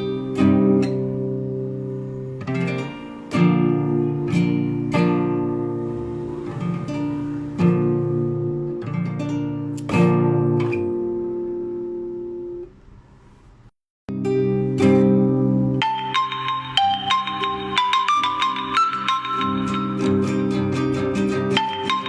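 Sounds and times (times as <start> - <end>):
classical guitar chords: 0.0 - 13.4, 14.1 - 22.0.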